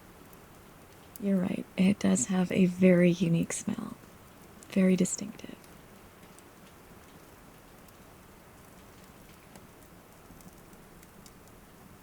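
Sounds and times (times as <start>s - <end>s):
fireplace crackling: 0.0s - 12.0s
steady rain: 0.0s - 12.0s.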